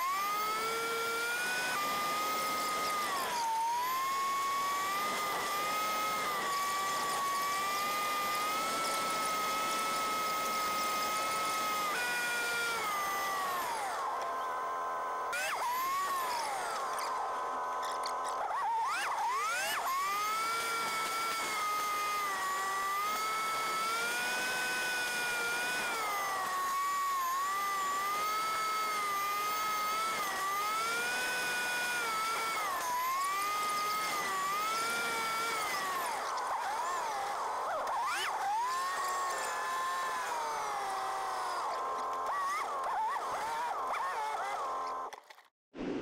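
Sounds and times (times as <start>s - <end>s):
truck gear whine: 0.0s - 45.5s.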